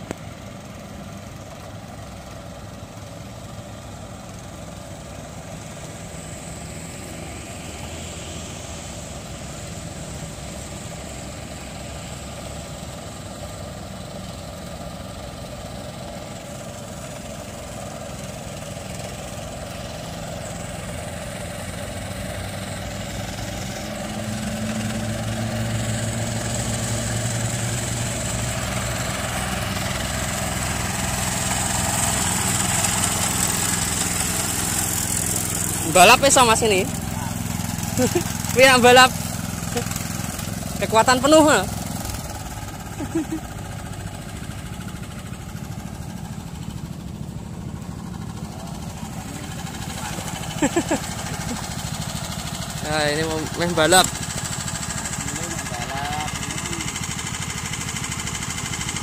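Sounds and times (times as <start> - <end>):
rice transplanter engine running: 0.0 - 59.0.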